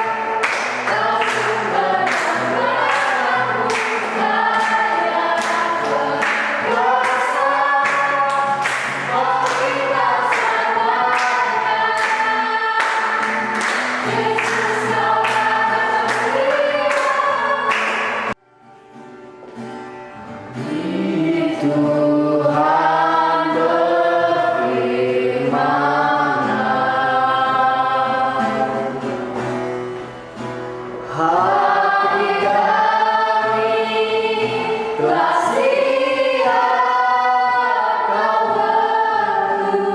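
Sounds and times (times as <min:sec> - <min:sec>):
group singing worship song: 0:00.0 - 0:18.4, 0:20.5 - 0:30.1, 0:31.0 - 0:39.9.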